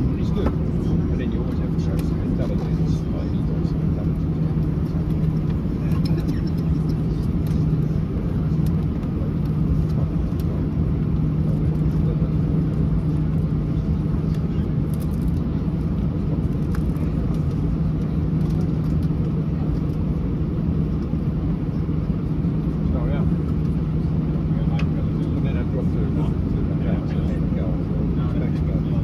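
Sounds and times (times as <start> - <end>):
airplane cabin engine rumble: 0.0 - 29.0.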